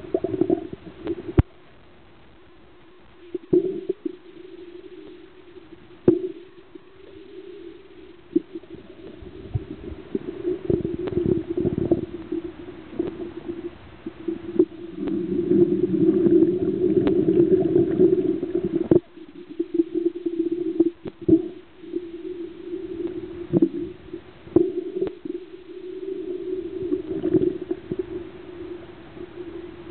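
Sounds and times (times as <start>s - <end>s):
muffled underwater hum: 0.0s - 29.9s.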